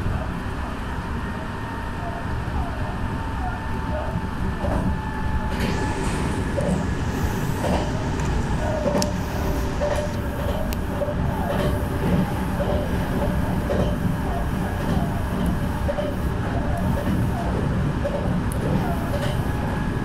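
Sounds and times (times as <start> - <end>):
faint train whine: 0.0 - 20.0
train wheels rumbling: 2.6 - 20.0.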